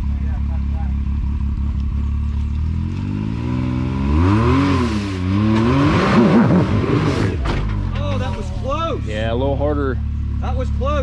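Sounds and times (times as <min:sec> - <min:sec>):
utv engine revving: 0:00.0 - 0:11.0.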